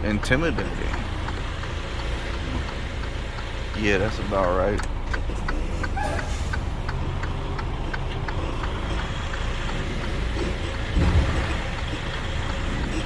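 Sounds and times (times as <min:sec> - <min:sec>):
diesel engine running: 0:00.0 - 0:13.0
hazard flasher relay ticking: 0:00.0 - 0:13.0.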